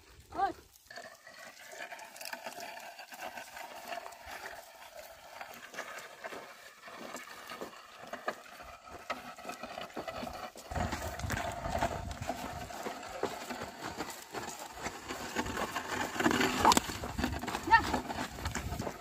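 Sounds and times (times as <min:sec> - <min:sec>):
ox hoof steps: 0:00.0 - 0:19.0
plough scraping through dry soil: 0:00.0 - 0:19.0.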